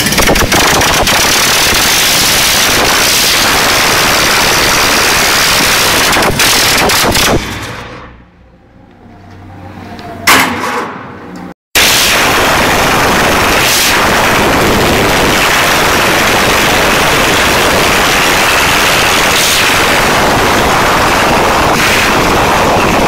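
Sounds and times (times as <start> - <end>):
engine running loud and ragged: 0.0 - 8.0, 12.2 - 23.0
sharp crack: 0.0 - 8.1, 11.8 - 23.0.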